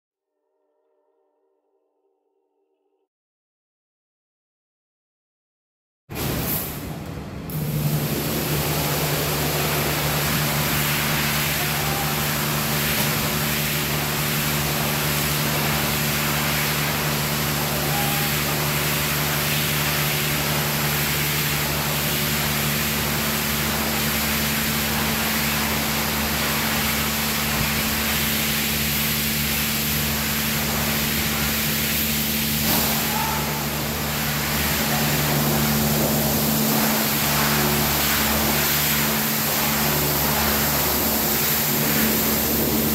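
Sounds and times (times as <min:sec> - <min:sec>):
machine hum: 0:06.1 - 0:42.9.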